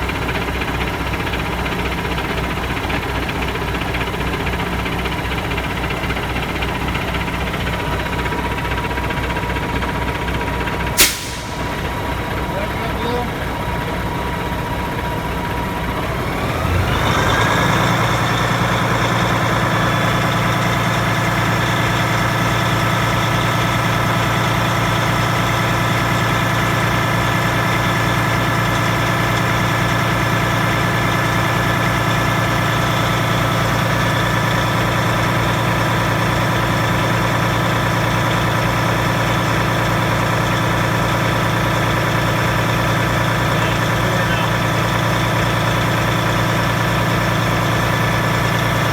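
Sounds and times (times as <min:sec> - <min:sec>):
diesel truck engine starting and idling: 0:00.0 - 0:48.9.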